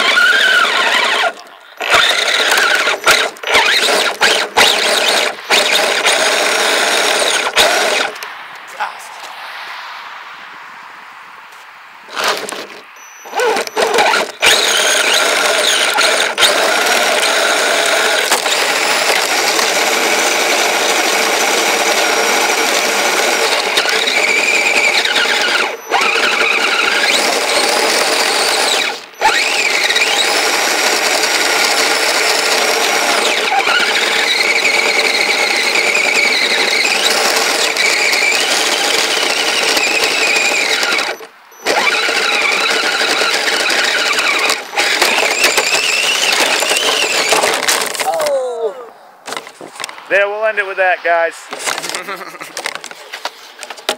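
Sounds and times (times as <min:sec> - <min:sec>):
toy motor whining: 0:00.0 - 0:08.2, 0:12.1 - 0:48.4.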